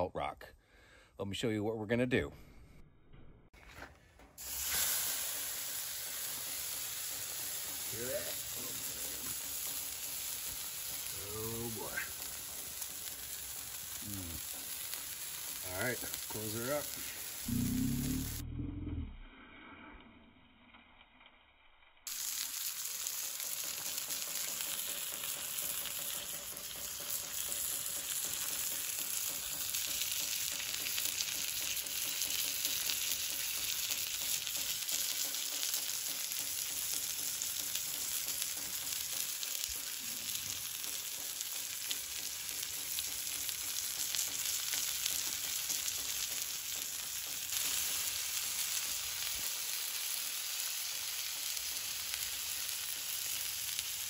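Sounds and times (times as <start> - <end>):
steak sizzling: 4.4 - 18.4, 22.0 - 54.0.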